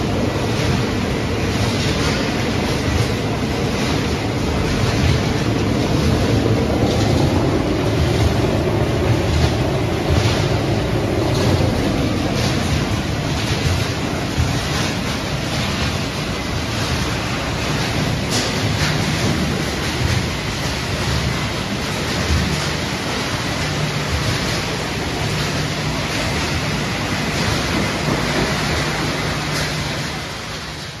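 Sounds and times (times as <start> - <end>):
crushing machinery rumbling: 0.0 - 31.0
material pouring from chute: 0.0 - 31.0.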